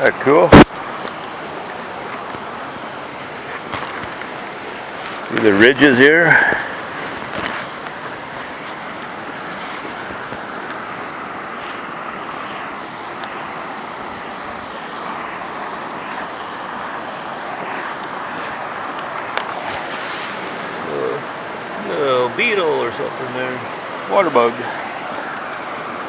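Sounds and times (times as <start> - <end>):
waterfall and rapids rushing: 0.0 - 26.0.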